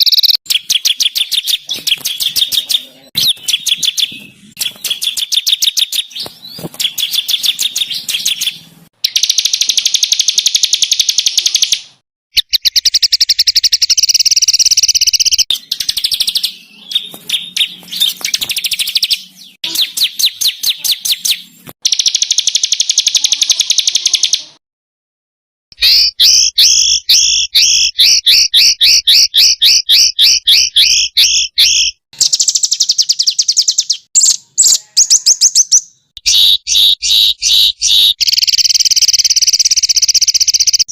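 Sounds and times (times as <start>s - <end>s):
songbirds singing rapid high notes: 0.0s - 24.6s, 25.7s - 40.9s.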